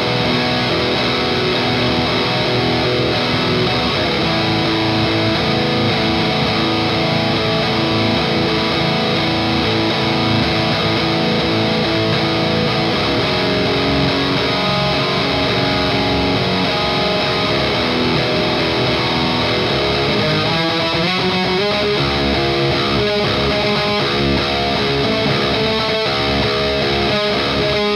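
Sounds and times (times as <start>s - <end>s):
overdriven electric guitar: 0.0s - 27.9s.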